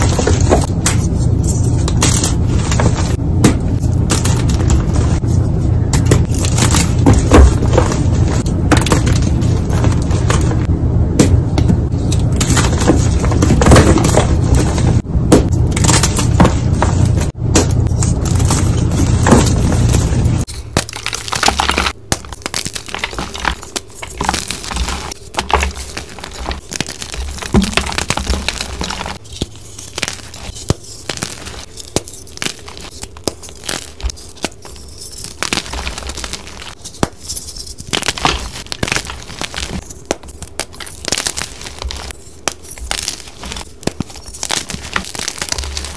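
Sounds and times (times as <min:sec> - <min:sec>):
hands crushing chalk: 0:00.0 - 0:45.9.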